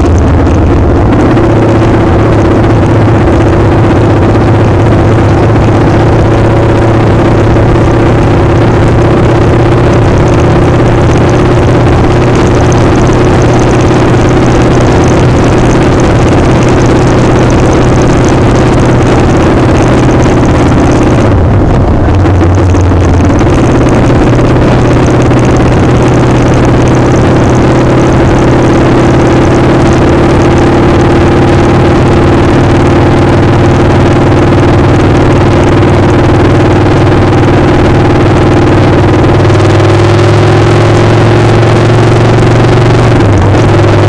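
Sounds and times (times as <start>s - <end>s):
heavy wind noise: 0.0s - 44.0s
motorcycle engine running: 0.0s - 44.0s.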